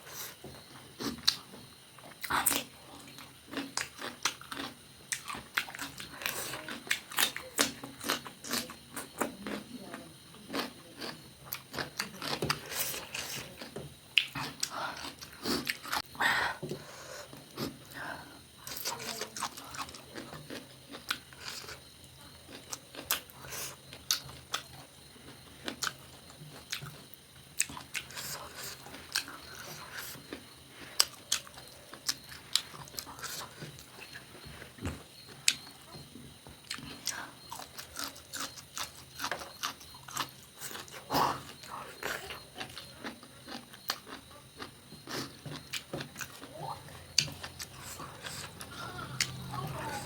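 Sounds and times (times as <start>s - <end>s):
chewing and crunching food: 0.1s - 16.2s, 16.8s - 50.0s.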